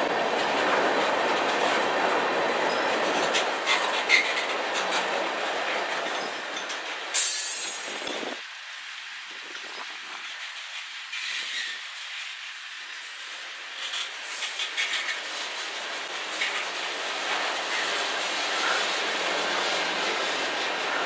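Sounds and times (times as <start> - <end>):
wheels clicking over rail joints: 0.0 - 8.3, 9.3 - 21.0
steel wheels hissing on rail: 2.4 - 21.0.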